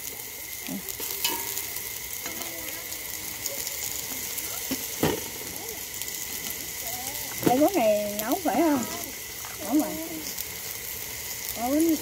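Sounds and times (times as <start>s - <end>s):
mushrooms sizzling in a pot: 0.0s - 12.0s.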